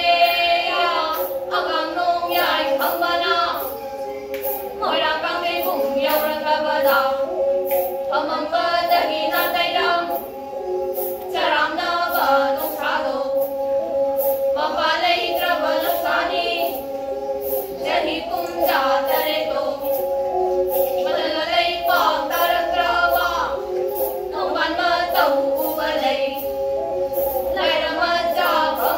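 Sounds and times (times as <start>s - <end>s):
bells jingling: 0.0s - 28.9s
women singing in unison: 0.0s - 28.9s.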